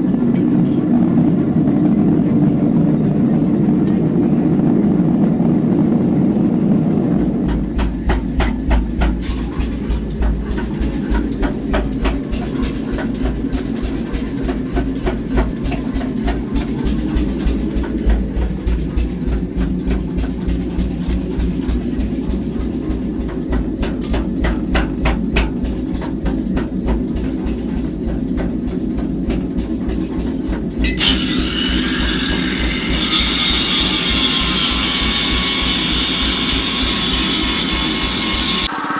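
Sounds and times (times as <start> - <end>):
machinery humming: 0.0 - 38.9
rapid clicking and knocking: 6.9 - 38.7.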